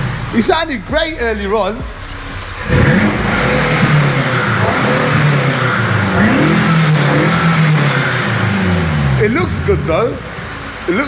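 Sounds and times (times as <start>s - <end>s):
loud car engine running: 0.0s - 11.0s.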